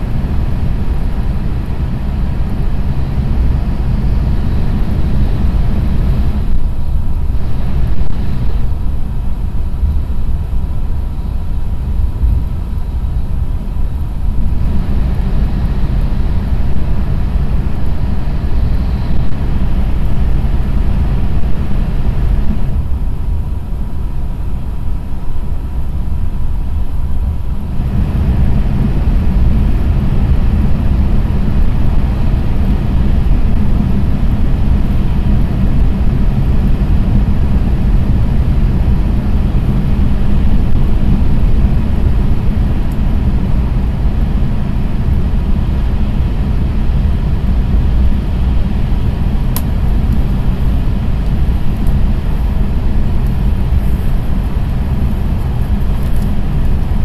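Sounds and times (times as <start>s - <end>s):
train cabin deep rumble: 0.0s - 57.0s.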